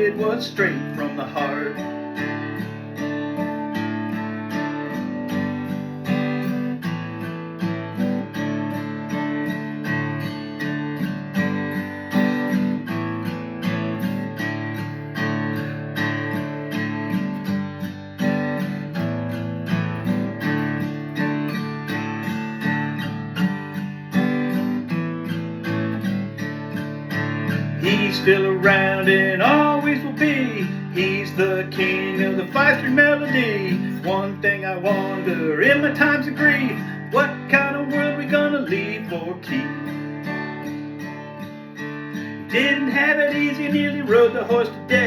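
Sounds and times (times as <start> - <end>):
acoustic guitar strumming: 0.0 - 45.0.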